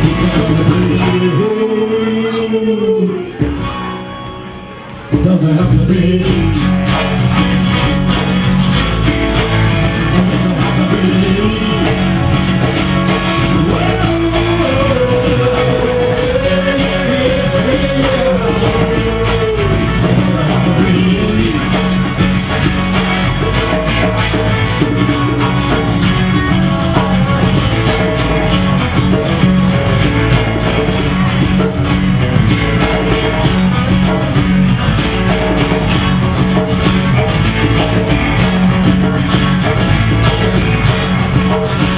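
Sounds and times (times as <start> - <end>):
live rock band: 0.0 - 41.9.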